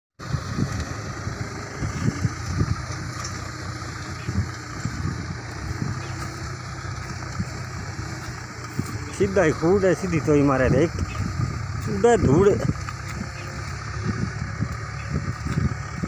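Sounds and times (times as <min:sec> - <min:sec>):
tractor diesel engine running: 0:00.2 - 0:16.0.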